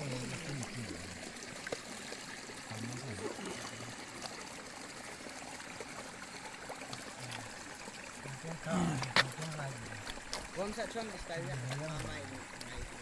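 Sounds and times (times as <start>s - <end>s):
stream running water: 0.0s - 13.0s.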